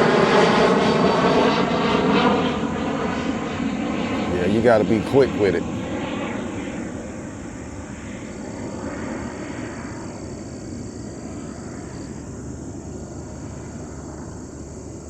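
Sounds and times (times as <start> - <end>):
airplane engine roar: 0.0 - 15.0.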